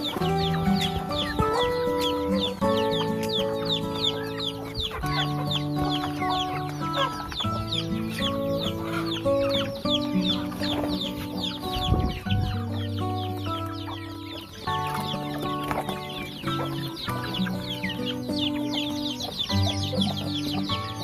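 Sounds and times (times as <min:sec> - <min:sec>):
background music with held notes: 0:00.0 - 0:21.0
chickens peeping: 0:00.0 - 0:21.0.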